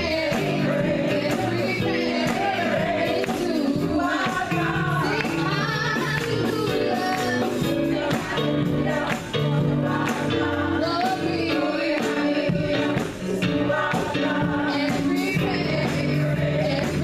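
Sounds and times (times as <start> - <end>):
women's choir singing: 0.0 - 17.0.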